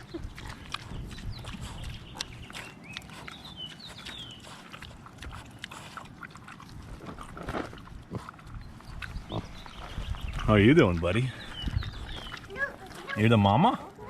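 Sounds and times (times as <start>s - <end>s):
pigs crunching and chewing: 0.0s - 14.0s
pigs snuffling: 0.0s - 14.0s.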